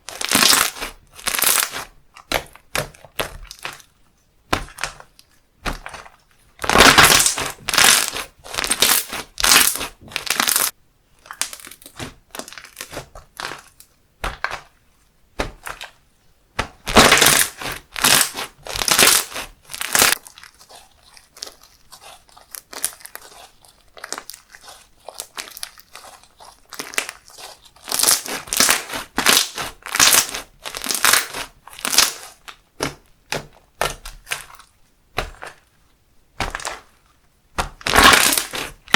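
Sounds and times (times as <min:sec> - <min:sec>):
slime crackling and popping: 0:00.0 - 0:03.9, 0:04.5 - 0:14.8, 0:16.6 - 0:35.7, 0:36.3 - 0:38.9.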